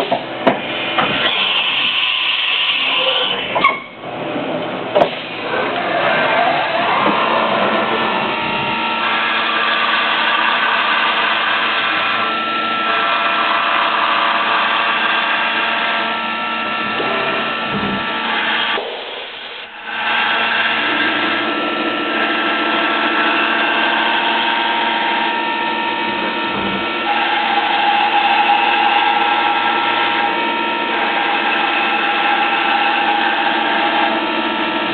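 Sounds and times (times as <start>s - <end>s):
mill machine whine: 0.0s - 34.9s.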